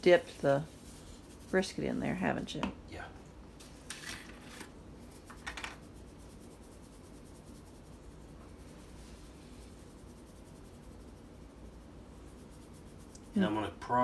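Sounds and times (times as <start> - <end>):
scratchy rustling of rubbing: 0.0 - 2.6, 3.6 - 14.0.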